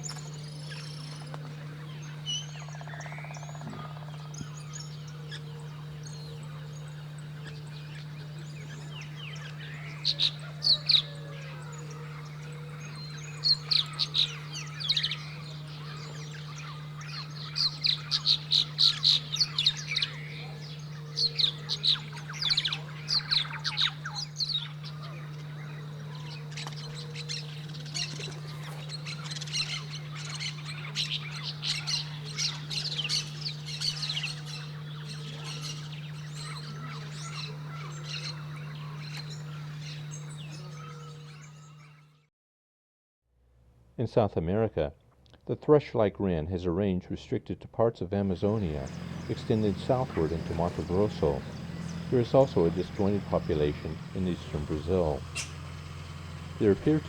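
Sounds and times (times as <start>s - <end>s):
birds calling: 0.0s - 42.3s, 48.2s - 57.0s
steady low hum: 0.0s - 42.3s, 47.8s - 57.0s.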